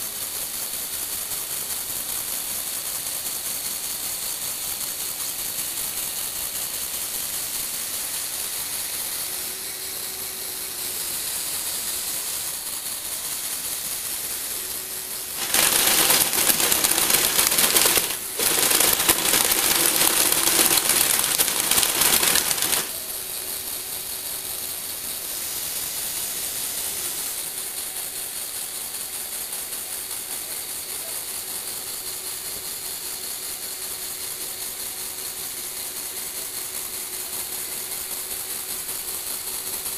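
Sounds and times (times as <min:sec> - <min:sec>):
toy motors and gears whirring: 0:00.0 - 0:39.9.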